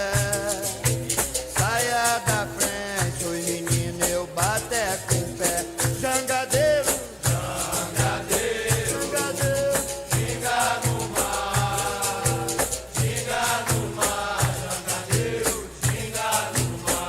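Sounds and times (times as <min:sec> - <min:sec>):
berimbau: 0:00.0 - 0:17.0
percussion steady beat: 0:00.0 - 0:17.0
rattle shaking: 0:00.0 - 0:17.0
voices singing: 0:00.0 - 0:17.0.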